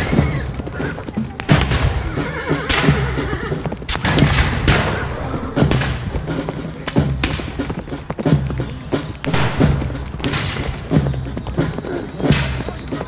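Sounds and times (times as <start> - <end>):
voices: 0.0 - 13.0
battle booms over loudspeakers: 1.3 - 3.0, 3.9 - 13.0.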